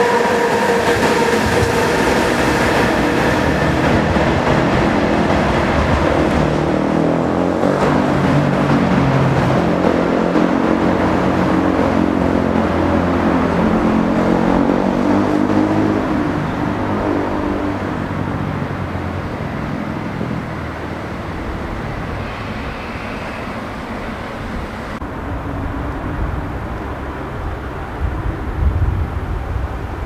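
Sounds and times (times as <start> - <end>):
traffic background noise: 0.0 - 30.0.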